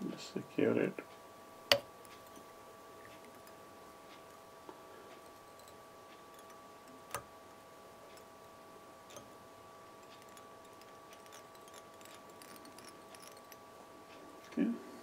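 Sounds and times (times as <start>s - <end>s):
faint hum: 0.0s - 15.0s
faint clicks and ticks: 1.0s - 14.7s.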